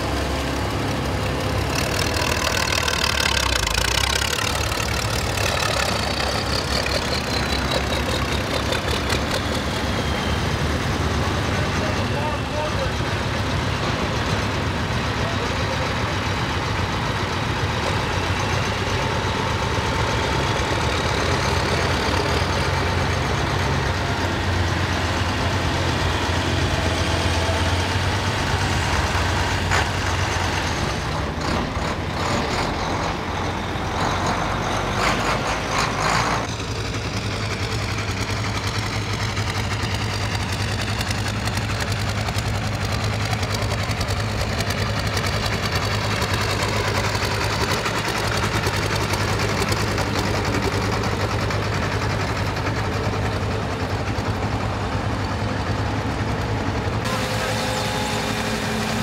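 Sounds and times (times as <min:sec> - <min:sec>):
tractors and truck passing: 0:00.0 - 0:59.0.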